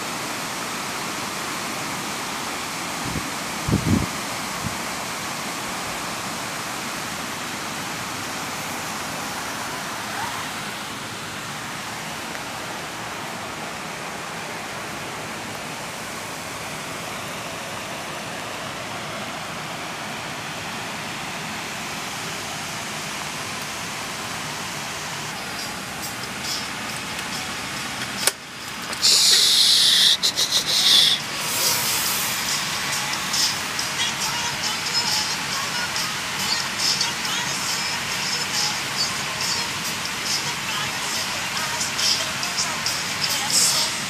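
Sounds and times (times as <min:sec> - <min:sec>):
running water: 0:00.0 - 0:44.0.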